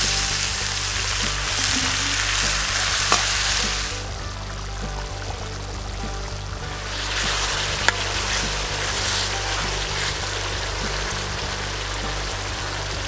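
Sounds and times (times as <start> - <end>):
background music: 0.0 - 13.0
sauce sizzling in a pan: 0.0 - 13.0.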